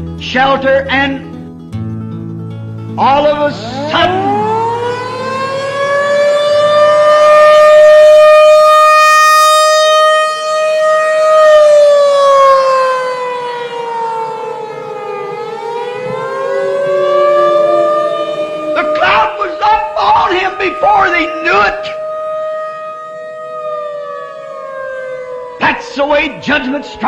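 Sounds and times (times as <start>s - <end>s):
warning siren wailing: 3.0s - 27.0s.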